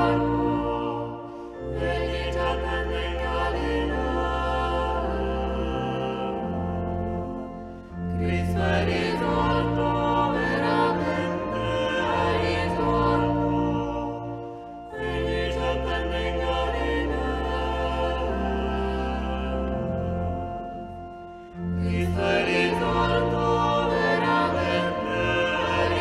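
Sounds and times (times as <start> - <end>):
choir singing a slow chant: 0.0 - 26.0.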